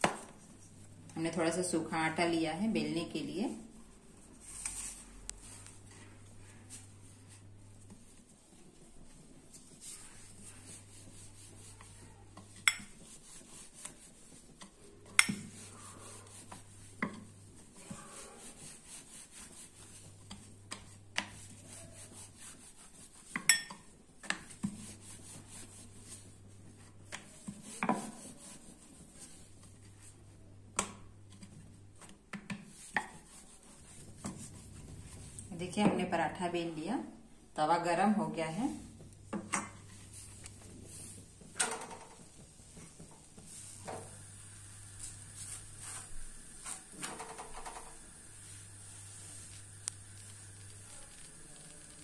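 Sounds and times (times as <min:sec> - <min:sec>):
rolling pin rolling dough: 0:00.0 - 0:36.8, 0:37.8 - 0:52.0.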